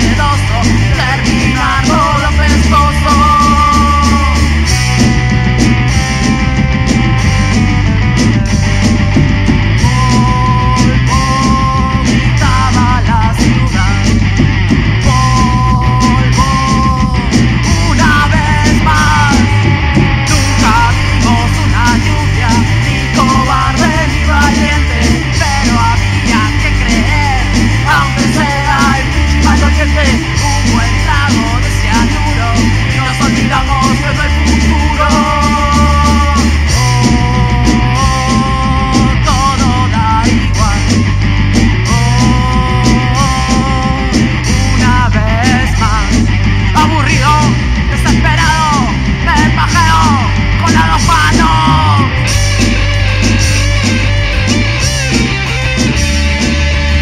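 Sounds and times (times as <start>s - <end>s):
punk rock song: 0.0s - 57.0s.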